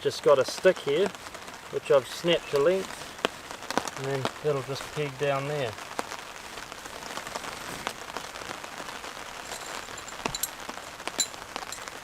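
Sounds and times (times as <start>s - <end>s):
raindrops ticking on surfaces: 0.0s - 12.0s
steady rain: 0.0s - 12.0s.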